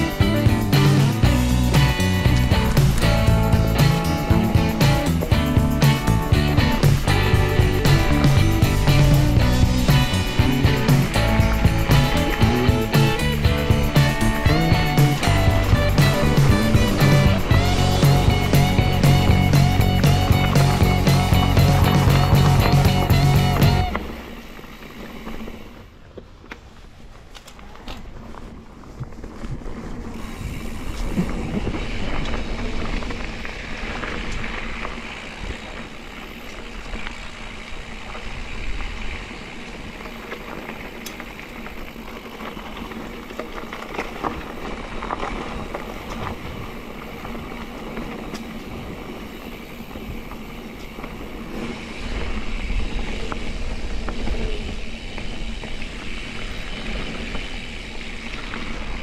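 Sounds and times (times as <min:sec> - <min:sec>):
bike clicks: 0:00.0 - 0:59.0
bike tyres rolling on dirt: 0:00.0 - 0:59.0
wind rumbling on microphone: 0:00.0 - 0:59.0.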